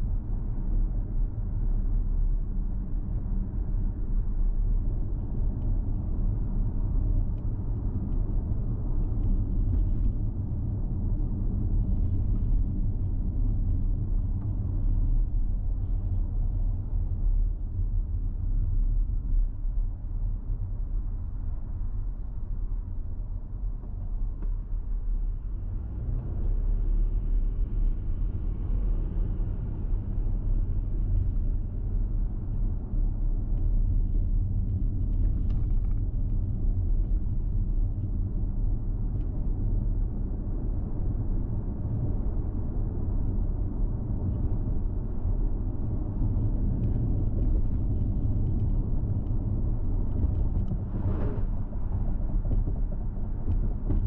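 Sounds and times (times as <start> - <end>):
car tyre and engine rumble: 0.0 - 54.0.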